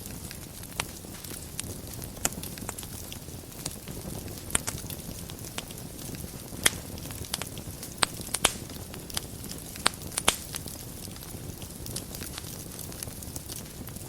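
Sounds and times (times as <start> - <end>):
fire rumbling: 0.0 - 14.0
loud pops from fire: 0.0 - 14.0
wood fire crackling: 0.0 - 14.0.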